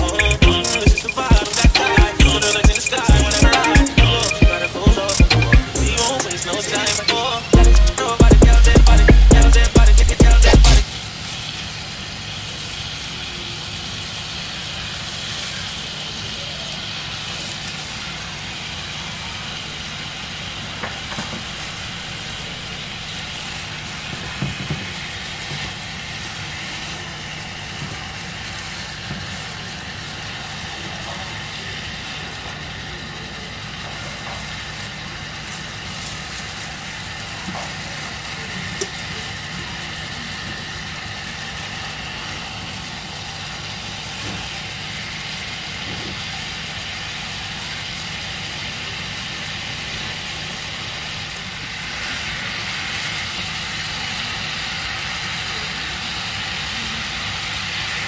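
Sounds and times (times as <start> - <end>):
meat sizzling in oil: 10.8 - 58.0.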